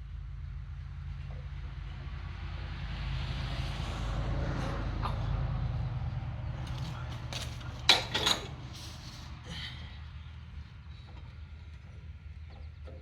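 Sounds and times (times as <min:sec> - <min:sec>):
engine low pulsing rumble: 0:00.0 - 0:13.0.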